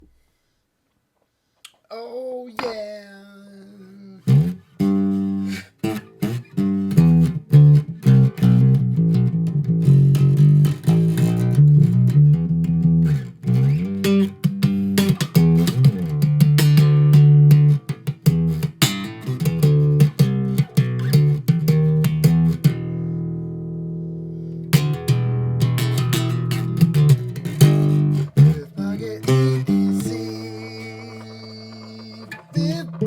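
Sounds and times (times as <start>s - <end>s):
guitar over bass line: 4.2s - 33.0s.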